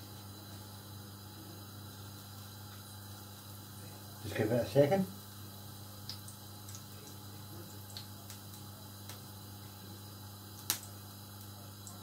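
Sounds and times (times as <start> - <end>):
oil crackling in frying pan: 1.9 - 12.0.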